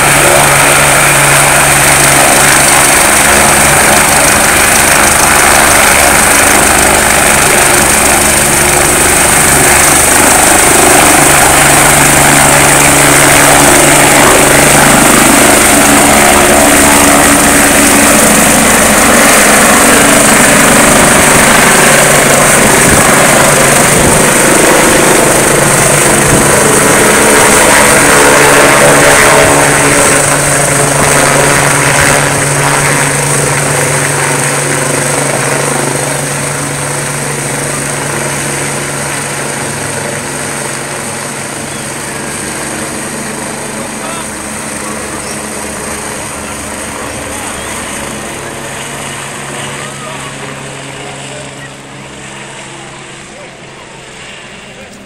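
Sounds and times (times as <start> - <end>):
helicopter turbine and rotor noise: 0.0 - 55.0.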